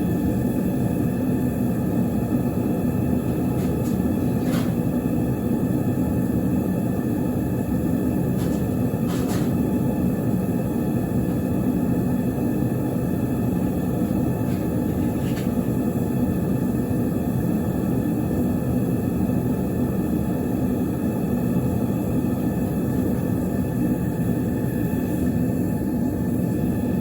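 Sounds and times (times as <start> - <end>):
propane burner rumbling: 0.0 - 27.0.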